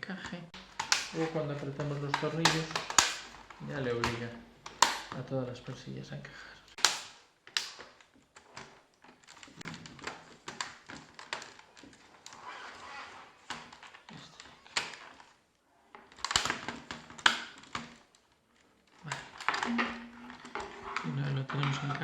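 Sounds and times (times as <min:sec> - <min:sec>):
plastic clips clicking into place: 0:00.2 - 0:05.4, 0:06.7 - 0:12.4, 0:13.1 - 0:22.0.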